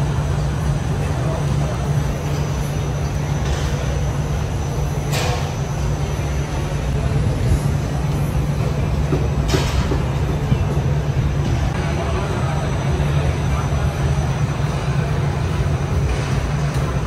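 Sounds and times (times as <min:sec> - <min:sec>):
rumble of busy indoor hall: 0:00.0 - 0:17.0.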